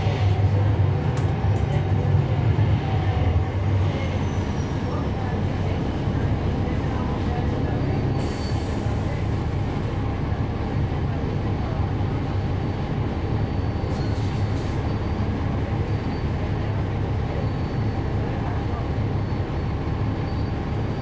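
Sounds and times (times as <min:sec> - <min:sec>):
bus diesel engine droning: 0:00.0 - 0:21.0
road rumble: 0:00.0 - 0:21.0.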